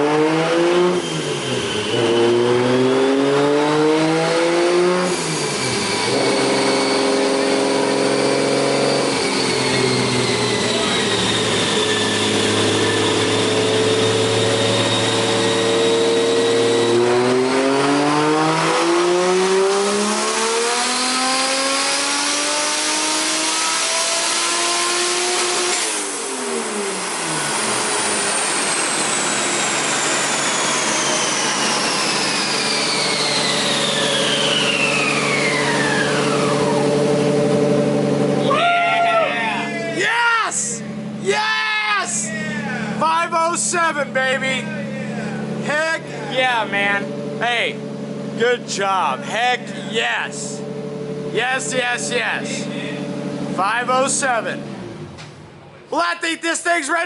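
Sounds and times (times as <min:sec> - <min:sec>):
turbo car engine revving: 0:00.0 - 0:55.8.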